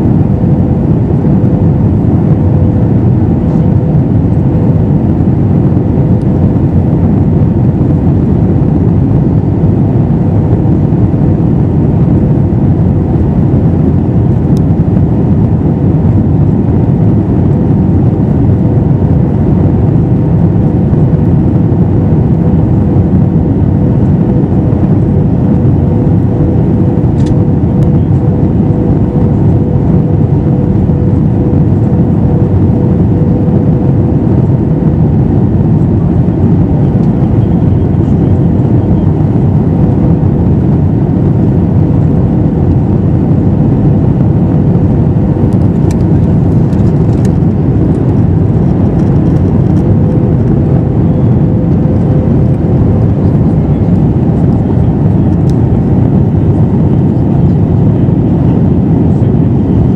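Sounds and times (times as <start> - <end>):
airplane cabin roar: 0.0 - 59.9
steady hum: 0.0 - 59.9.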